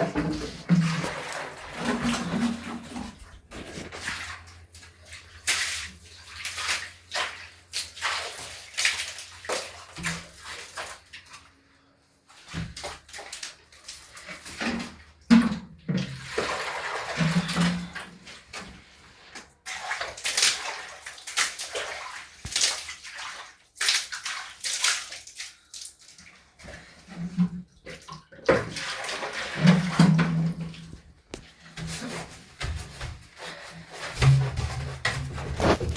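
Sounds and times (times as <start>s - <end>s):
water splashing and sloshing: 0.0s - 35.9s.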